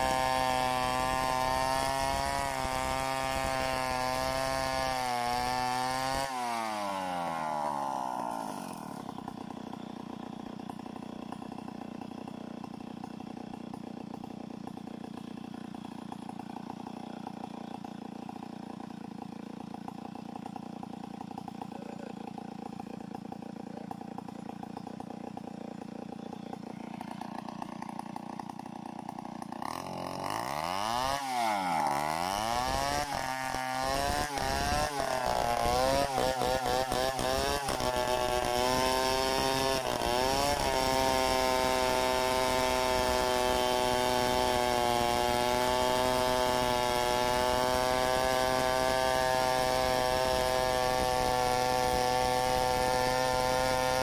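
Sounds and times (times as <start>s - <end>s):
chainsaw cutting log: 0.0s - 54.0s
chainsaw idling: 0.0s - 54.0s.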